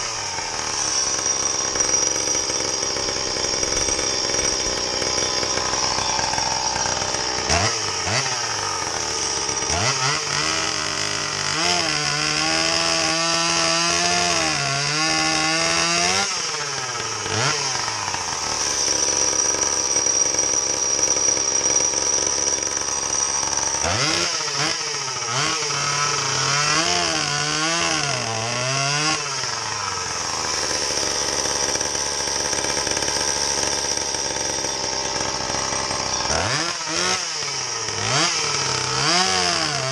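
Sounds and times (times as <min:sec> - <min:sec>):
chainsaw engine at high revs: 0:00.0 - 0:39.9.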